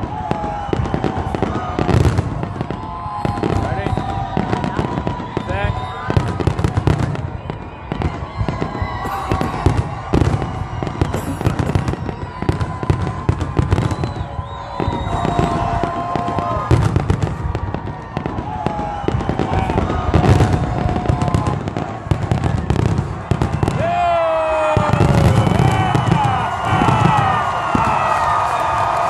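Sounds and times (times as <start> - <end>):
fireworks bursting and crackling: 0.0 - 29.0.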